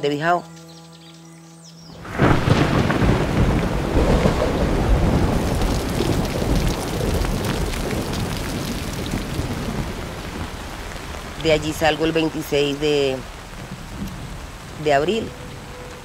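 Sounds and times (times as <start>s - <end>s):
heavy rain pouring: 2.0s - 16.0s.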